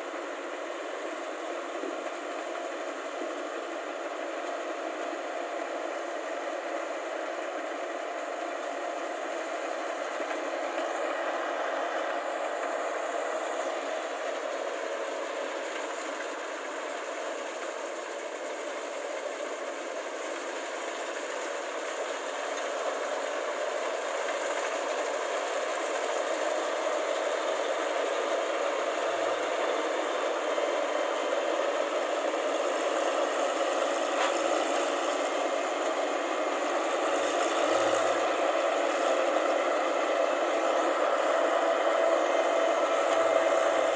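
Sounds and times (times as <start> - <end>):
harvester engine rattling: 0.2 - 43.9.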